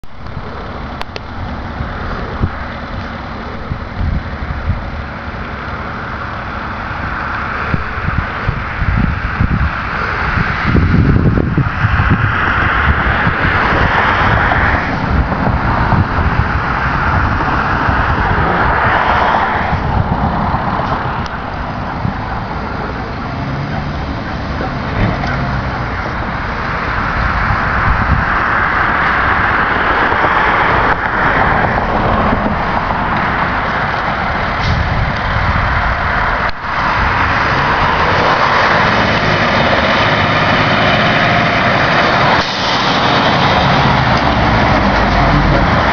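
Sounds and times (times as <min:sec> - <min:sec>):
diesel engine running under load: 0:00.0 - 0:18.8, 0:19.7 - 0:45.9
loud rushing noise: 0:00.0 - 0:45.9.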